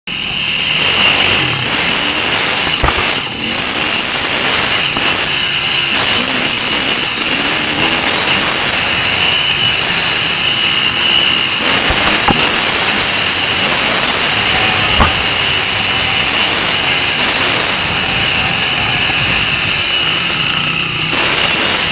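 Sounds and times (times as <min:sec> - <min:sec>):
dirt bike engine revving: 0:00.1 - 0:21.9
wind noise: 0:00.1 - 0:21.9.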